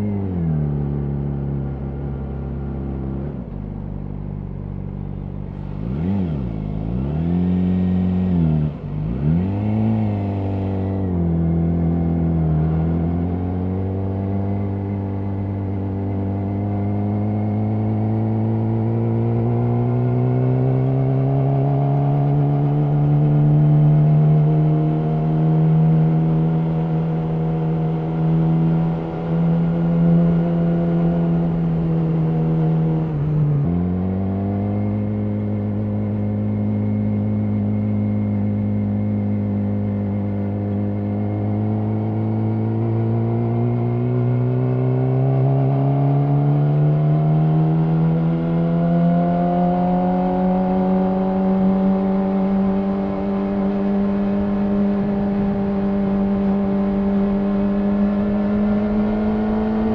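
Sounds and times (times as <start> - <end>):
motorcycle engine revving: 5.5 - 59.9.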